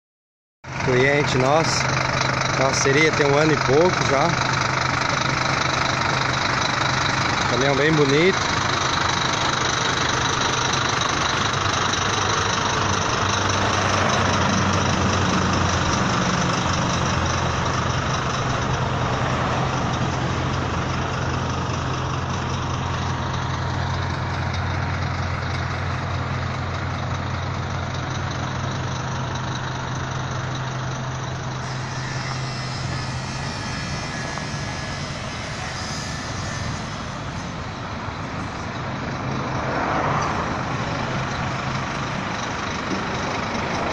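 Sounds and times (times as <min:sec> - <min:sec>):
truck engine idling: 0:00.7 - 0:43.9.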